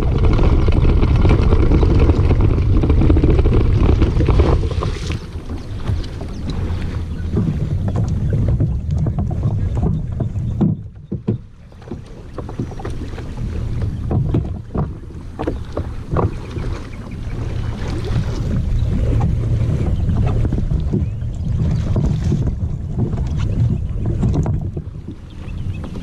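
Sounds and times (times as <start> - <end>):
knocks and bumps on kayak: 0.0 - 26.0
wind buffeting microphone: 0.0 - 26.0.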